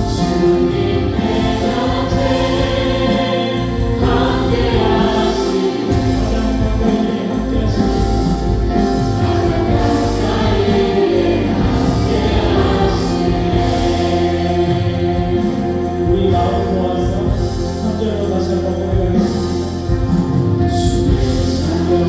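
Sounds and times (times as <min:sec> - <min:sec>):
singers holding long notes: 0:00.0 - 0:18.1
praise band playing: 0:00.0 - 0:22.0.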